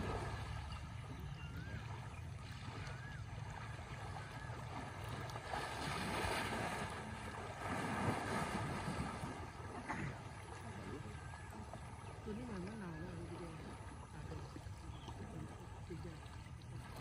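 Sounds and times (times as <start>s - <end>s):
river water rushing and splashing: 0.0s - 1.7s, 2.3s - 17.0s.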